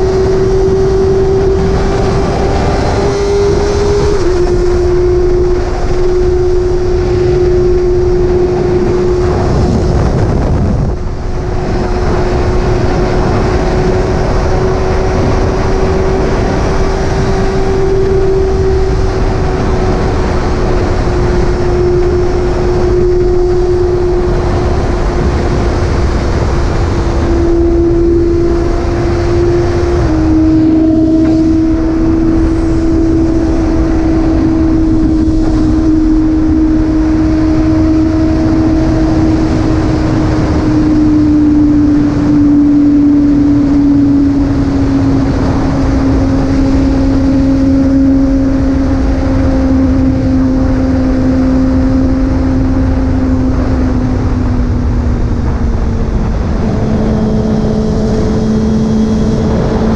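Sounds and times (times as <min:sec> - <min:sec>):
motorcycle engine cruising: 0:00.0 - 0:59.9
wind rumble on microphone: 0:00.0 - 0:59.9.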